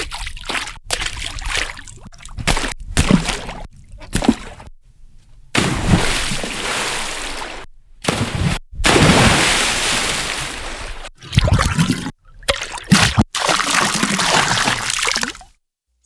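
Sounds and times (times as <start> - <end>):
splashing water sound effects: 0.0 - 4.7, 5.6 - 15.5.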